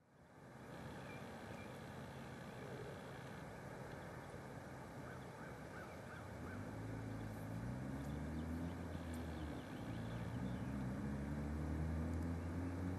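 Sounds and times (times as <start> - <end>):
faint outdoor background: 0.0 - 12.9.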